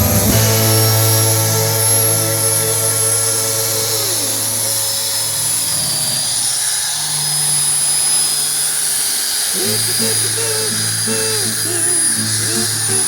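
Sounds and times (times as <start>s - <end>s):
power tool motor running: 0.0s - 13.0s.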